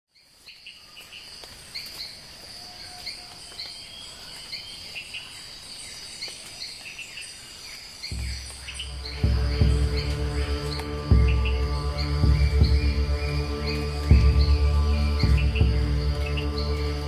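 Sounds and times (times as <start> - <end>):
small birds chirping: 0.1 - 17.0
steady high-pitched hiss: 0.2 - 17.0.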